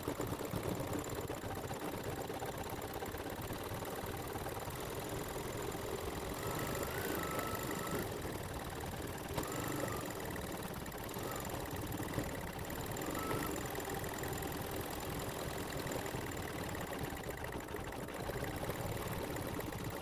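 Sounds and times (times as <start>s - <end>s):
embroidery machine stitching: 0.0s - 20.0s.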